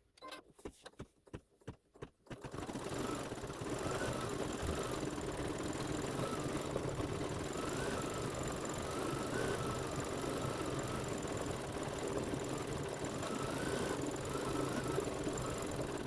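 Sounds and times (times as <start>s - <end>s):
embroidery machine stitching: 2.3s - 16.0s.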